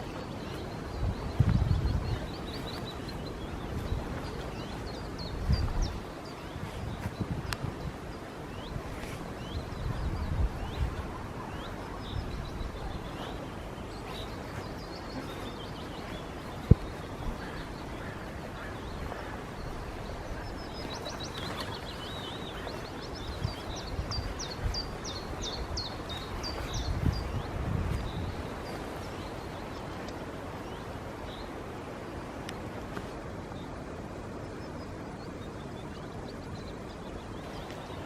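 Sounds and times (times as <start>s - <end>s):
songbirds chirping and singing: 0.0s - 31.5s.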